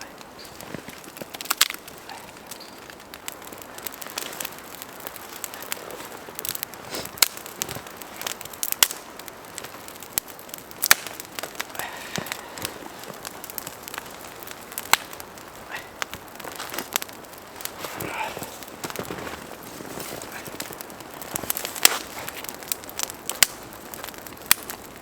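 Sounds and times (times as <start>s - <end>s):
low fire hiss: 0.0s - 25.0s
sharp fire pops: 0.0s - 25.0s
wood fire crackling: 0.0s - 25.0s.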